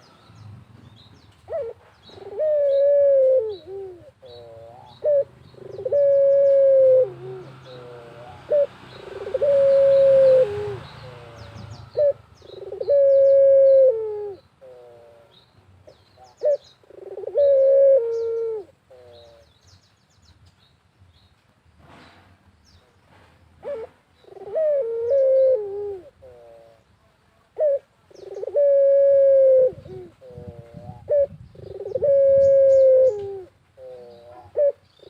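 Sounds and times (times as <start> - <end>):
small birds chirping: 0.0 - 21.6, 26.1 - 28.7, 29.7 - 35.0
dove cooing: 1.4 - 19.5, 23.6 - 26.9, 27.5 - 35.0.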